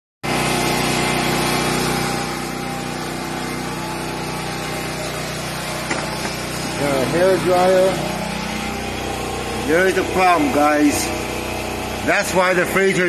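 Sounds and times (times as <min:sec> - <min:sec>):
hair dryer running: 0:00.2 - 0:13.0.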